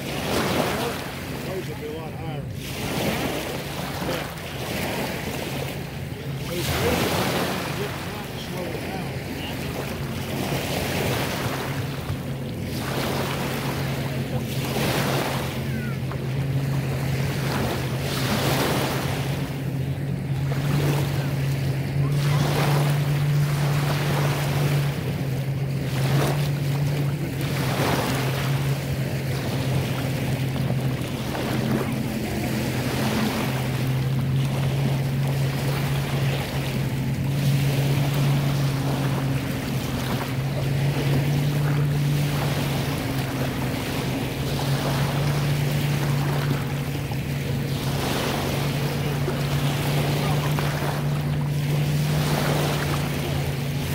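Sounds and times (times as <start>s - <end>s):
lake waves lapping: 0.0s - 53.9s
motorboat engine drone: 0.0s - 53.9s.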